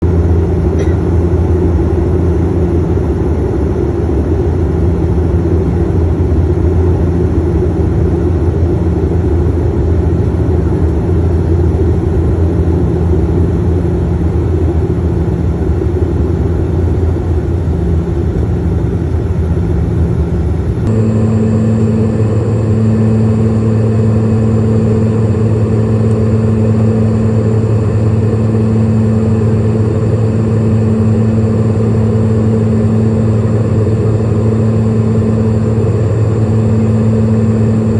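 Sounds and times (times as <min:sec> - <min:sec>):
airliner cabin engine drone: 0:00.0 - 0:37.9.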